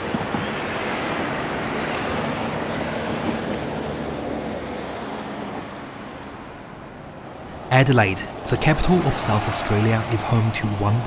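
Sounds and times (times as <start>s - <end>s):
distant traffic: 0.0s - 11.0s
wind: 0.0s - 11.0s.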